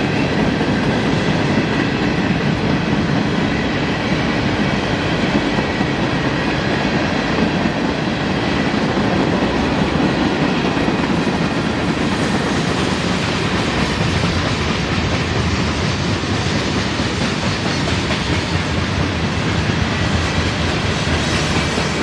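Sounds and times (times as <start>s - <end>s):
train wheels on rail: 0.0s - 22.0s.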